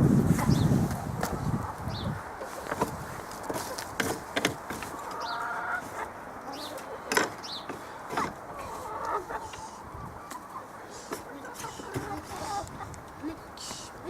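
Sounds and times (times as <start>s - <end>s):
chickens clucking: 0.3s - 14.0s.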